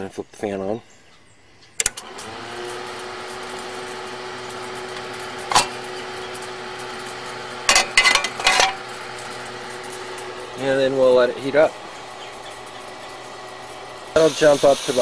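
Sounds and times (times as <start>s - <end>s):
electric blower fan humming: 1.9s - 15.0s.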